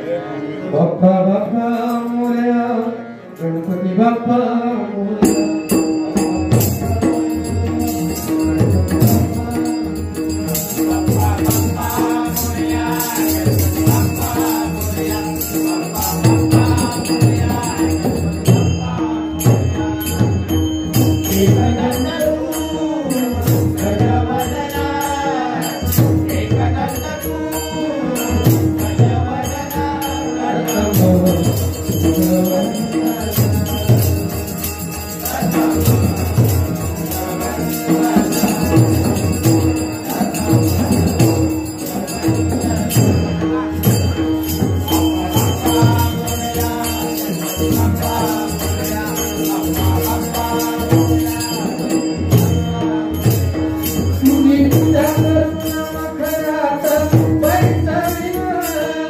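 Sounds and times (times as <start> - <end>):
harmonium note: 0.0 - 59.0
voices singing devotional melody: 0.0 - 59.0
jingling hand cymbals: 5.2 - 59.0.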